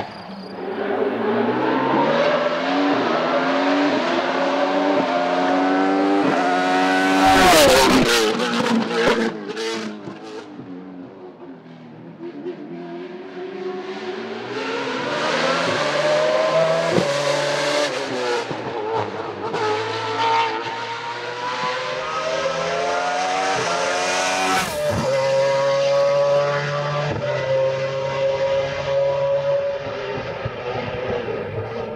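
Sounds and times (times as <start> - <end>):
racing car engine accelerating: 0.0 - 10.6, 12.1 - 31.9.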